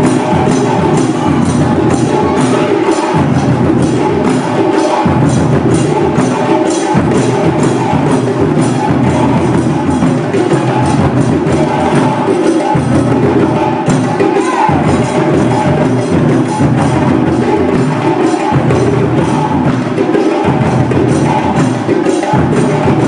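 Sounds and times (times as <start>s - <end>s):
continuous drumming: 0.0s - 23.0s
sharp knocking percussion beat: 0.0s - 23.0s.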